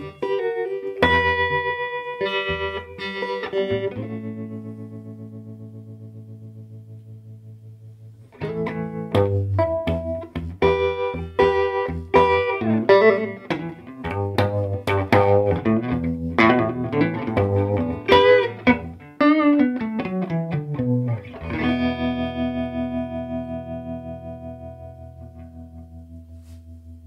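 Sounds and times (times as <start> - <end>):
electric guitar with tremolo: 0.0 - 27.0.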